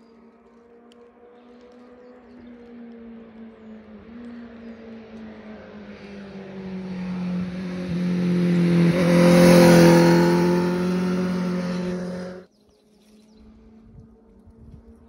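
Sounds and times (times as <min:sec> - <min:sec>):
motorcycle engine approaching: 0:00.3 - 0:12.5.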